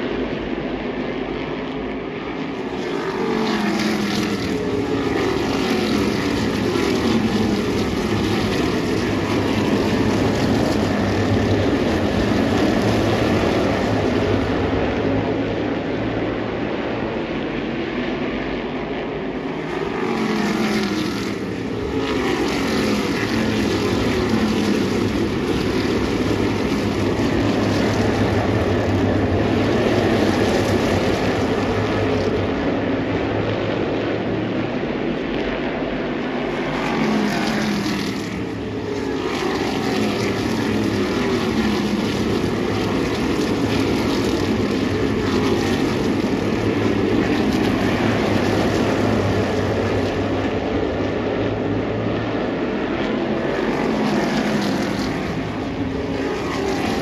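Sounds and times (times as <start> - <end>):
race car engines passing: 1.6 - 57.0.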